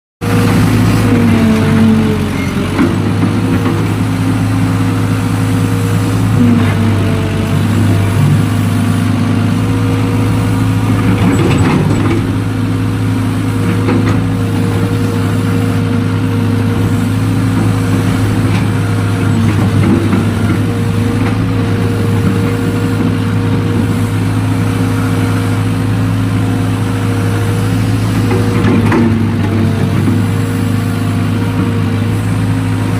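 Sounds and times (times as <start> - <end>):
excavator diesel engine running: 0.2 - 32.9.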